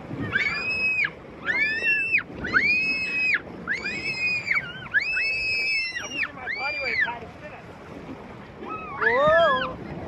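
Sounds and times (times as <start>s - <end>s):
rushing sliding water: 0.0s - 10.0s.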